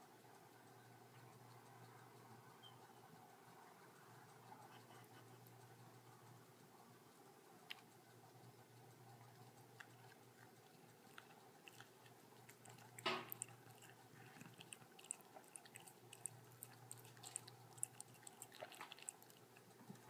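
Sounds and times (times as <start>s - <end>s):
cat tongue licking clicks: 3.2s - 20.0s.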